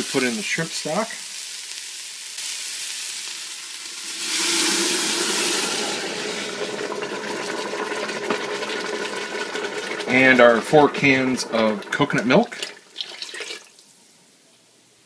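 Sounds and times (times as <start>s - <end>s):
stock sizzling in hot pot: 0.0s - 14.2s.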